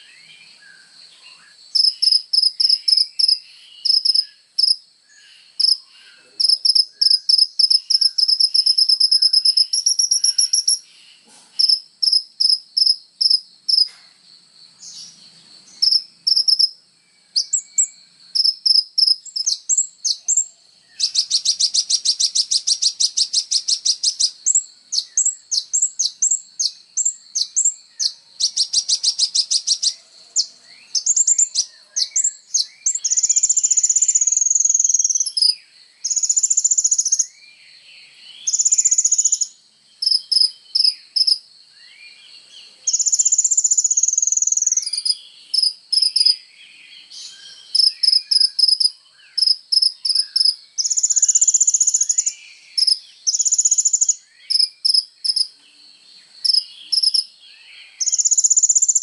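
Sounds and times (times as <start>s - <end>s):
bird singing high chirps: 0.0s - 59.0s
cricket trill: 0.0s - 59.0s.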